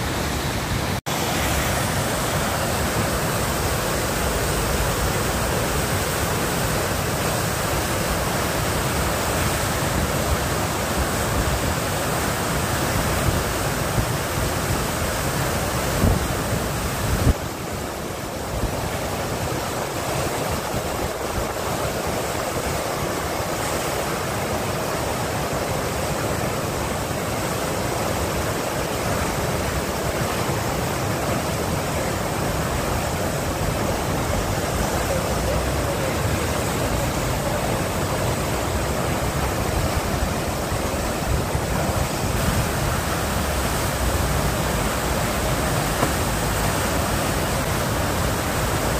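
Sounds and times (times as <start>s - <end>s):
whitewater rushing over ledge: 0.0s - 48.9s.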